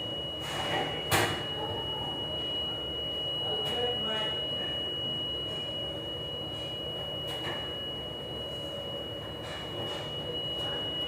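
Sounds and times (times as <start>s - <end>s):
machinery hum with high whine: 0.0s - 11.0s.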